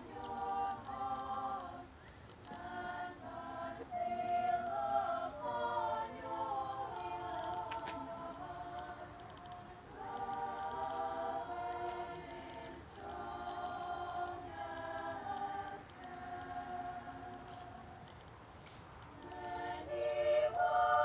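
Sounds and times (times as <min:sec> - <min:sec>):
slow ceremonial music: 0:00.0 - 0:01.9, 0:02.5 - 0:18.2, 0:19.2 - 0:21.0.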